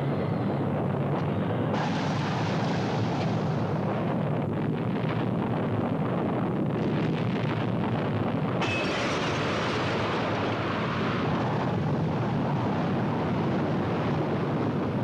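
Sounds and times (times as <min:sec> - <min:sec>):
bomb blast rumbling roar: 0:00.0 - 0:15.0.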